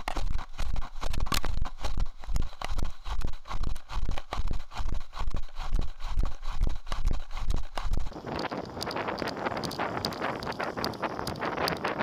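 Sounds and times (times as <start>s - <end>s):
rhythmic thumps and rustling: 0.0s - 12.0s.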